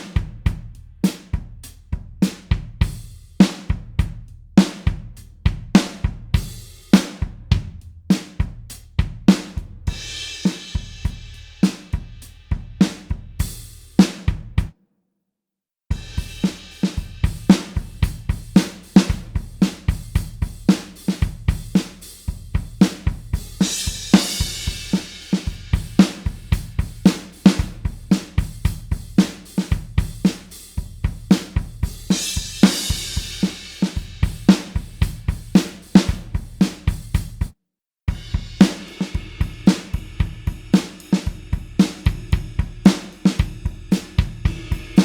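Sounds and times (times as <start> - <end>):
drum kit beat: 0.0 - 14.7, 15.9 - 37.5, 38.1 - 45.0.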